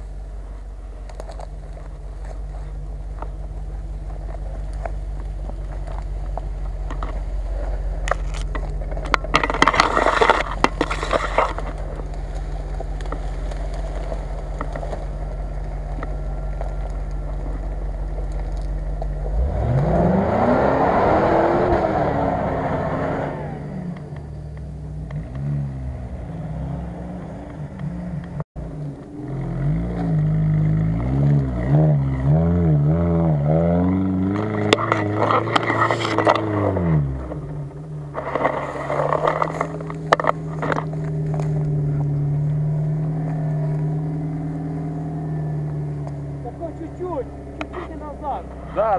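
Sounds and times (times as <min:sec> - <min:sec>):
crackling: 0:00.0 - 0:20.6, 0:27.4 - 0:48.9
suv engine revving: 0:00.0 - 0:48.9.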